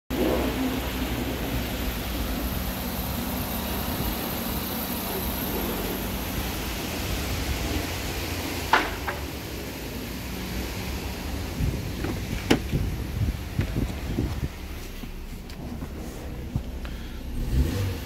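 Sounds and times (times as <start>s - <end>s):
car engine idling: 0.1s - 18.0s.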